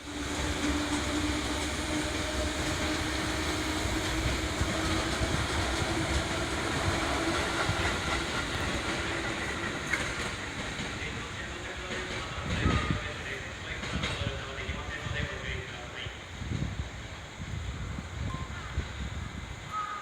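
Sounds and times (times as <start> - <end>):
electric train rumbling on rails: 0.0 - 20.0.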